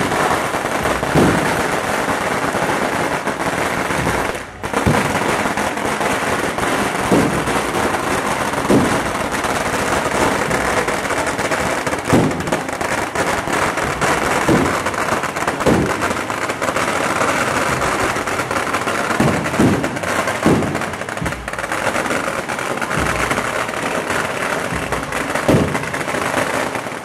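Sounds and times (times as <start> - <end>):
firecracker bangs: 0.0 - 27.0
firecrackers crackling: 0.0 - 27.0.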